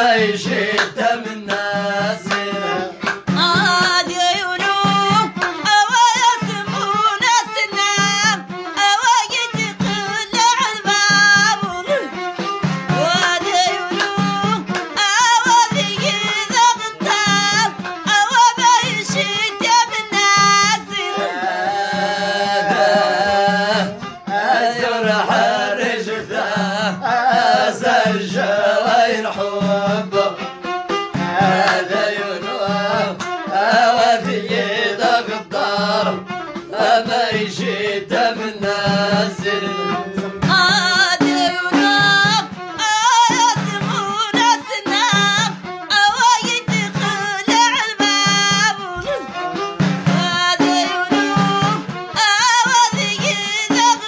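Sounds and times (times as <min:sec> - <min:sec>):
bowed violin melody: 0:00.0 - 0:54.0
hand drum beat: 0:00.0 - 0:54.0.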